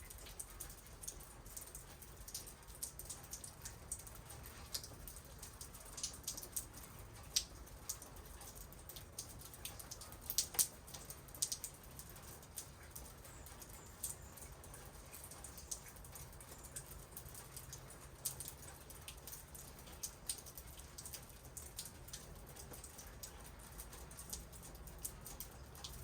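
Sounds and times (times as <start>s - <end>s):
raindrops tapping on surfaces: 0.0s - 26.0s.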